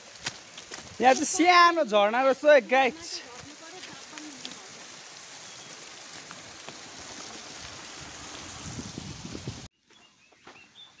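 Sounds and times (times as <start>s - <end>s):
water falling over wall: 0.0s - 9.7s.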